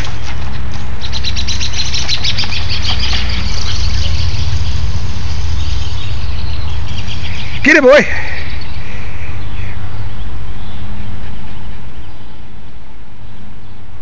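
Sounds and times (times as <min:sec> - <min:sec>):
small birds chirping: 0:00.0 - 0:13.9
steady low rumble: 0:00.0 - 0:14.0.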